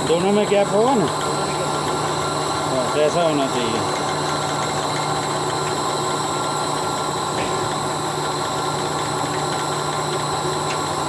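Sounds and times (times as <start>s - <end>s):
electric crane machine drone: 0.0s - 11.0s.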